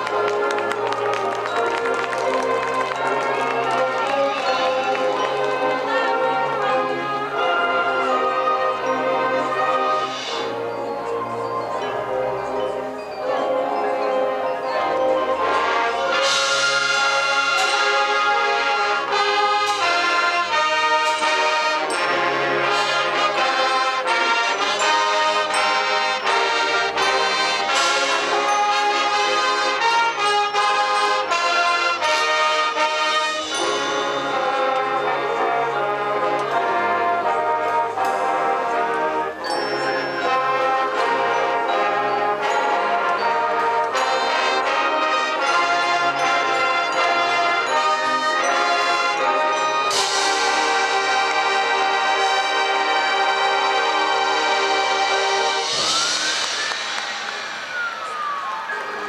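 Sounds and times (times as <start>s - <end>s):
brass trombones and trumpets: 0.0s - 59.0s
marching percussion: 0.0s - 59.0s.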